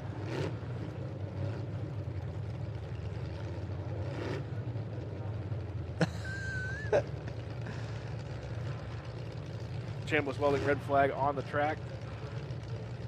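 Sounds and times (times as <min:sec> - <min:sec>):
truck engines idling: 0:00.0 - 0:13.0.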